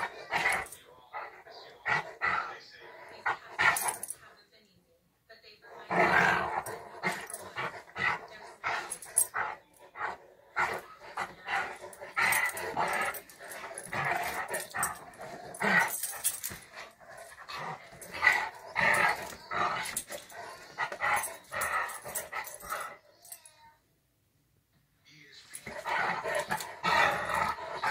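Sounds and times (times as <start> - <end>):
dogs growling and grumbling: 0.0 - 4.2, 5.7 - 23.4, 25.4 - 27.9.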